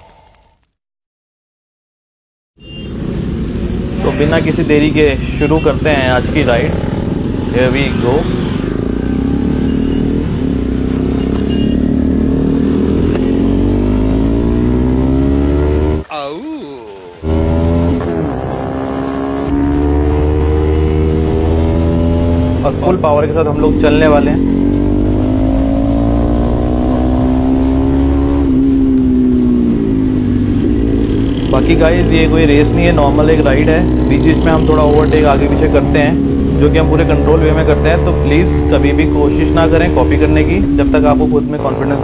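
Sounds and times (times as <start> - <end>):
motorcycle engine accelerating: 3.6 - 16.1, 17.2 - 42.0.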